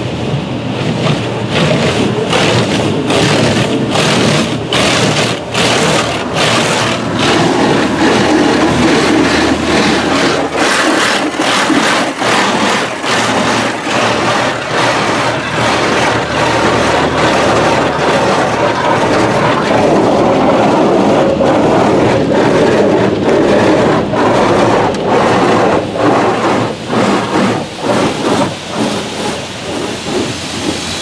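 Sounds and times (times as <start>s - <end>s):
water jets spraying car: 0.0s - 31.0s.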